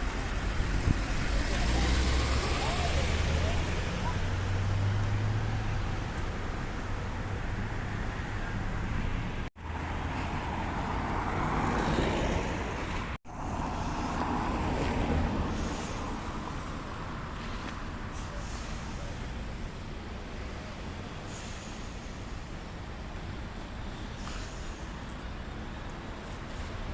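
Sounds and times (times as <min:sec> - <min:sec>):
passing cars rumbling: 0:00.0 - 0:26.9.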